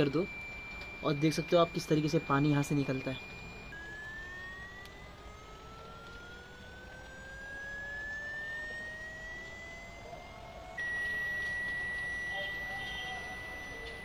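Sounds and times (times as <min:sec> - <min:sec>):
electronic tone rising in pitch: 0:00.0 - 0:14.0
loud steady high tone: 0:00.0 - 0:14.0.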